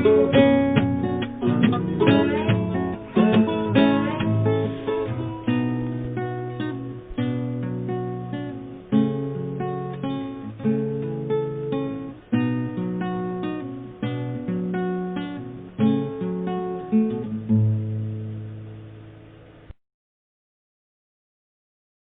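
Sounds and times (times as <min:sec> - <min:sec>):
acoustic guitar chords: 0:00.0 - 0:19.8.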